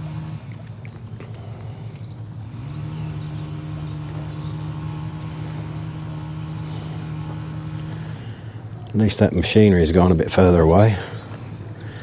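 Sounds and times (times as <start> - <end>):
distant machinery engine hum: 0.0 - 12.0.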